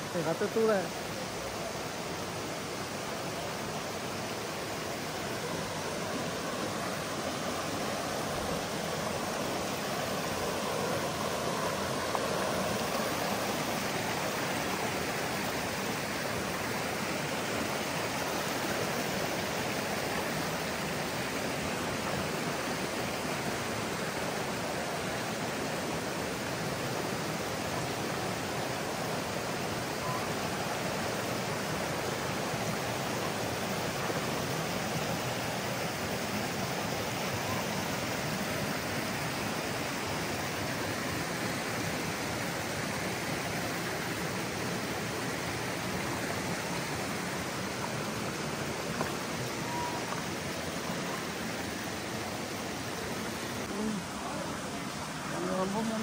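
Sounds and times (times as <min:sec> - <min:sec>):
river water rushing over boulders: 0:00.0 - 0:56.0.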